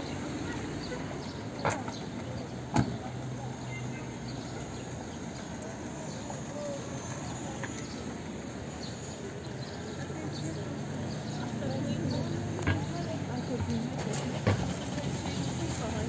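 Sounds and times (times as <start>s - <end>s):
street and crowd noise: 0.0s - 16.0s.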